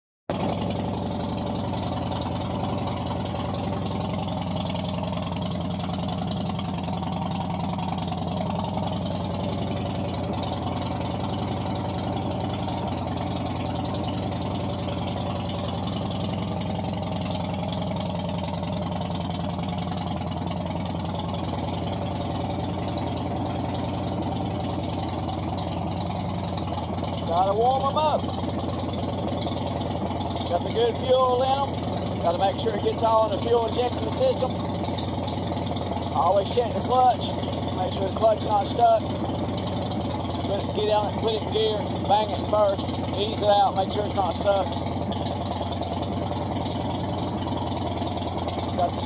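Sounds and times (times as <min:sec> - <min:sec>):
motorcycle engine idling: 0:00.3 - 0:49.0.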